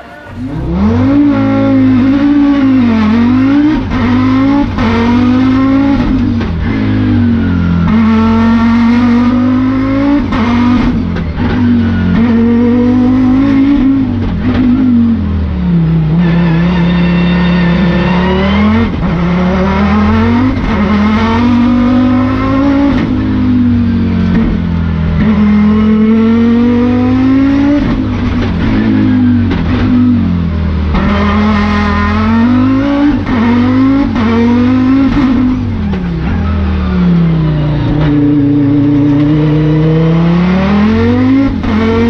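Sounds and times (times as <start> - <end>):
car engine revving hard: 0.0 - 42.0.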